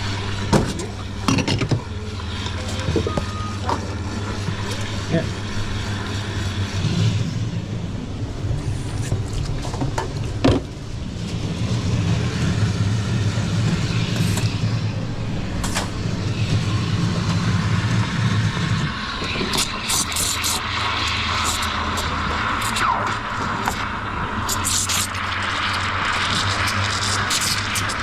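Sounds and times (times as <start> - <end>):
espresso machine pump humming: 0.0 - 28.0.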